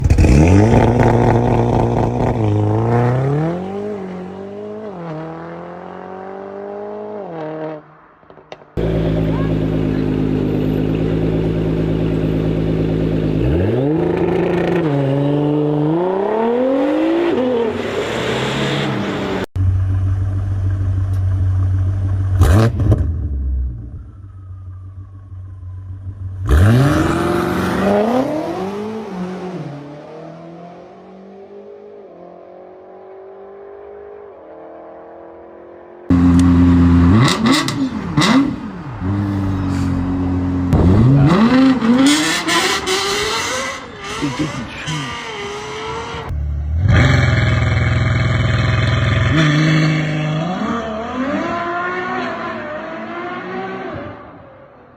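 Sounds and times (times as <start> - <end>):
car engines idling and revving: 0.0 - 54.9.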